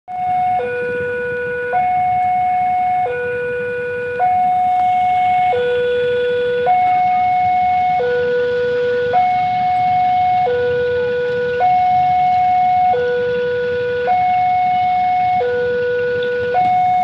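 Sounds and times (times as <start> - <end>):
two-tone level crossing alarm: 0.1 - 17.0.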